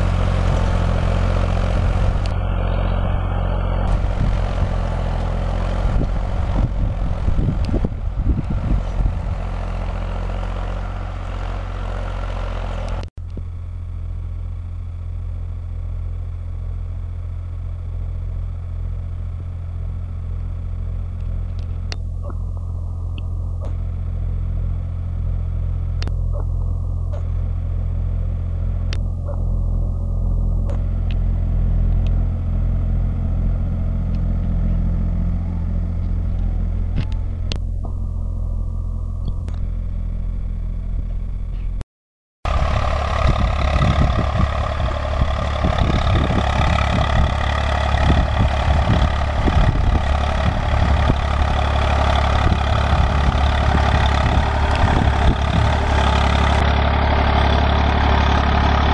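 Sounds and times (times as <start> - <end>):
tractor diesel engine running: 0.0 - 41.8, 42.4 - 58.9.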